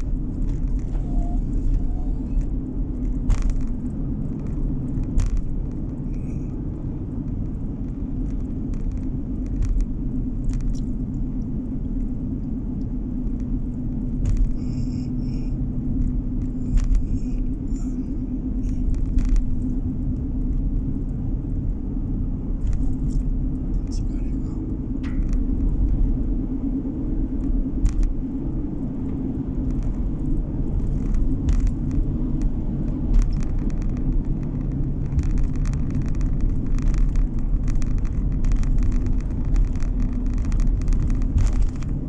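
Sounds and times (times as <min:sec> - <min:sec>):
car interior road and engine rumble: 0:00.0 - 0:42.0.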